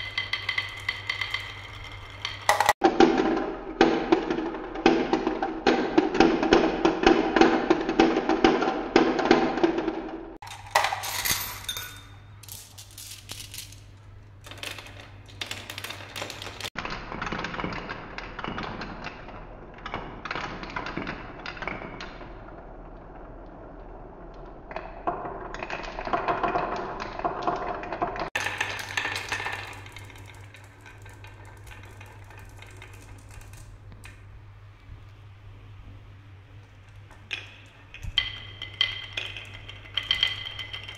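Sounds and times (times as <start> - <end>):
marbles clicking on wooden tracks: 0.0 - 10.2, 12.4 - 34.3, 36.6 - 40.9.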